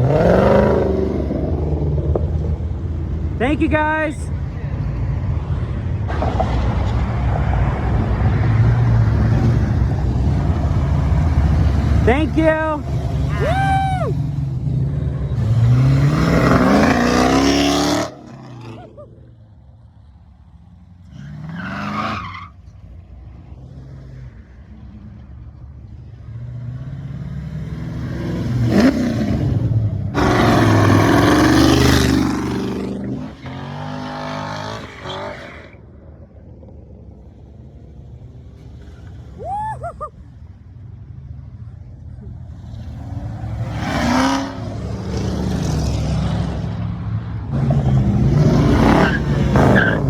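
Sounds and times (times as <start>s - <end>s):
muscle car engines revving: 0.0s - 19.7s, 20.4s - 35.8s, 40.2s - 50.0s.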